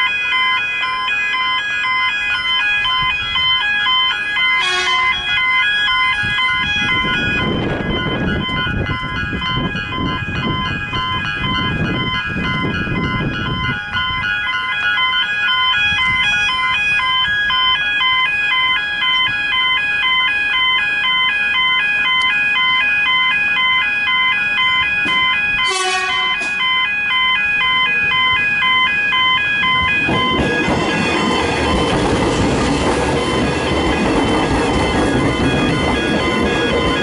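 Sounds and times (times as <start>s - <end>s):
electric train rumbling past: 0.0s - 37.0s
level crossing bell ringing: 0.0s - 37.0s.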